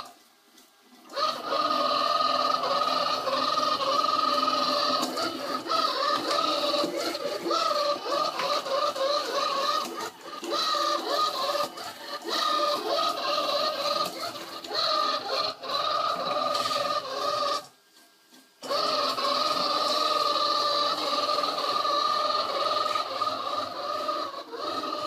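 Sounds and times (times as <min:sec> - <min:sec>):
robot vacuum cleaner whining: 0:01.0 - 0:17.8, 0:18.6 - 0:25.0.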